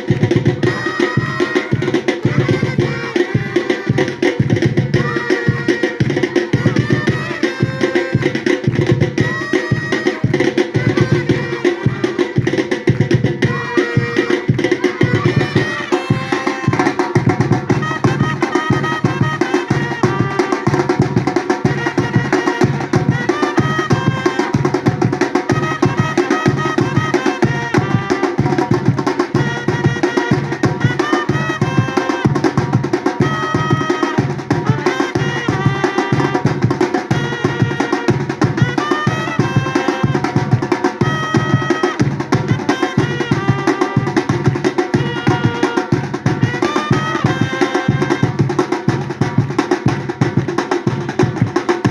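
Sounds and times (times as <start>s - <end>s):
percussion ensemble drumming: 0.0s - 51.9s.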